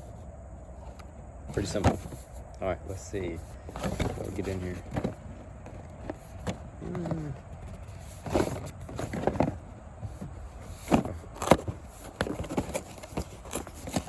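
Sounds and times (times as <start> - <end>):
cardboard box scraping and knocking: 1.5 - 2.4, 3.5 - 14.0.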